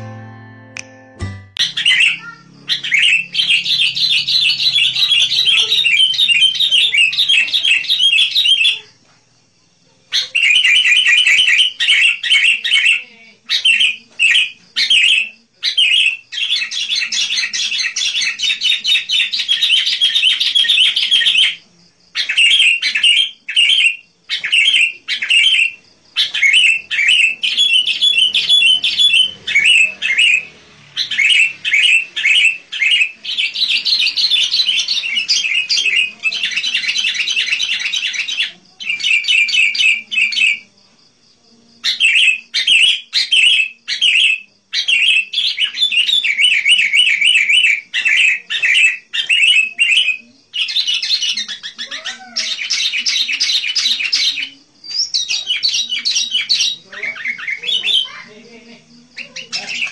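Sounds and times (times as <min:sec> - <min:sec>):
bulbul chattering chirps: 0:01.4 - 0:09.0, 0:10.1 - 0:40.7, 0:41.8 - 0:59.9.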